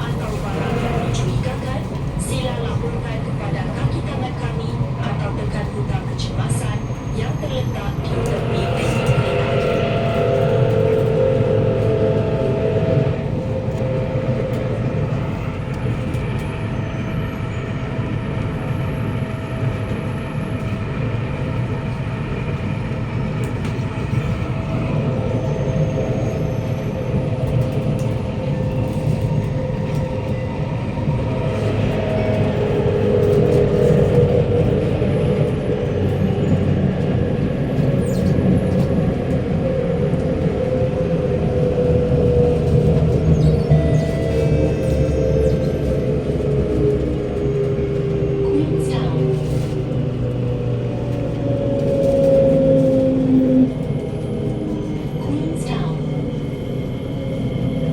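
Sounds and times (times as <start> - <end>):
wheels rumbling on track: 0.0 - 57.9.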